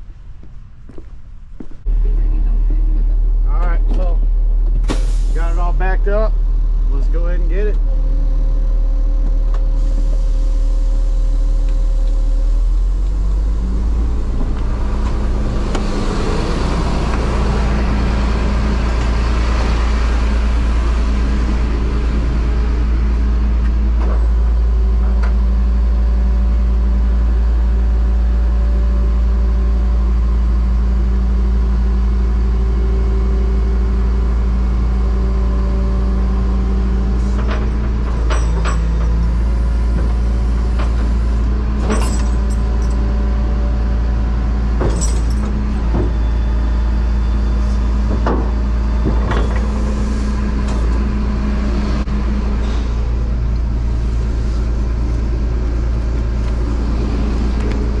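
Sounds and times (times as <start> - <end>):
truck engine running: 1.6 - 58.0.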